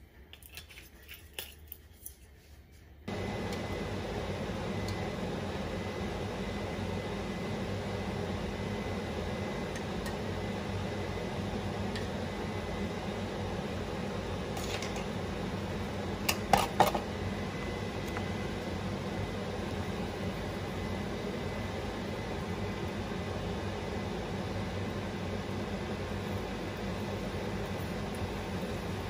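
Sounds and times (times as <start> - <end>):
kitchen fan whirring: 0.0 - 29.0.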